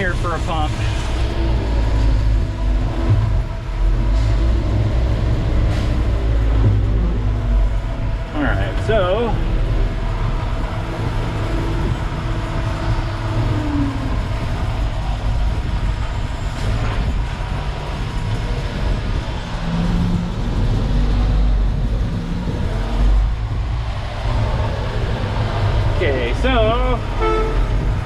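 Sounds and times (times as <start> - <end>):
diesel engine low rumble: 0.0 - 28.0.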